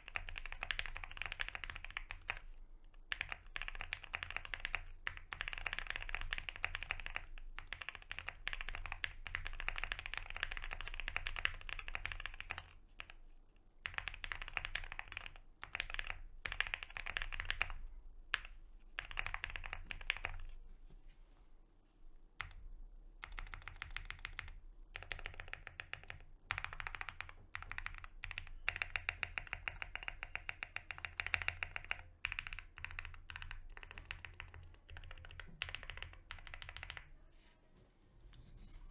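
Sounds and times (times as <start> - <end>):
mechanical keyboard typing: 0.0 - 13.2, 13.8 - 20.5, 23.2 - 37.1.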